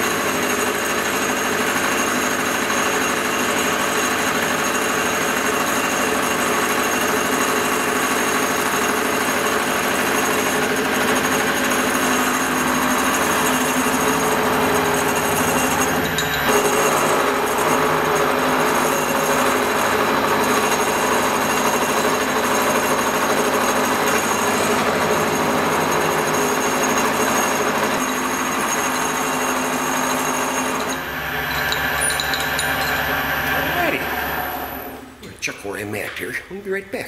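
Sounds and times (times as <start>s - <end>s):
milling machine cutting metal: 0.0s - 35.2s.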